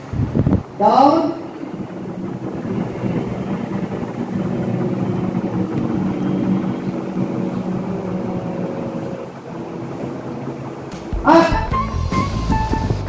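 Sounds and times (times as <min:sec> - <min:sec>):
group humming low drone: 0:00.0 - 0:13.0.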